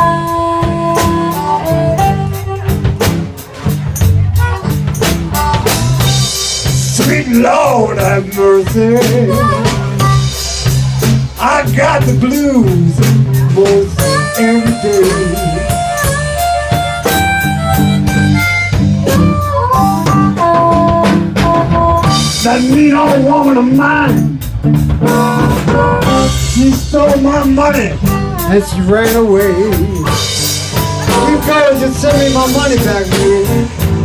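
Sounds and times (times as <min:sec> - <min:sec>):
amplified harmonica wailing: 0:00.0 - 0:03.0, 0:05.4 - 0:10.7, 0:13.8 - 0:24.1, 0:25.0 - 0:34.0
blues band playing: 0:00.0 - 0:34.0.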